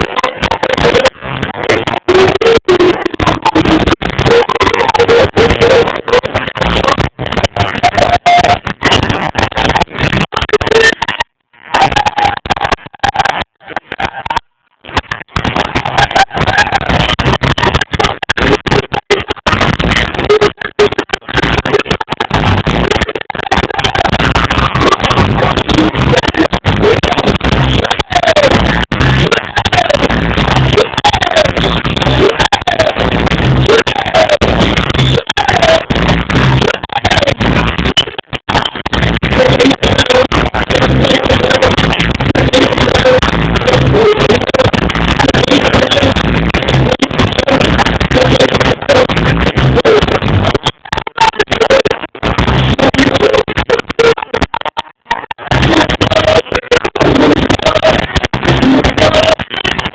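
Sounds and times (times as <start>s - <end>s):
distorted live reggae band: 0.0s - 59.9s.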